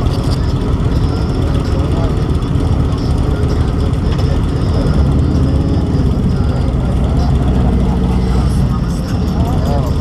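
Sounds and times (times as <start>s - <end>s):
motorcycle engines rumbling: 0.0s - 10.0s.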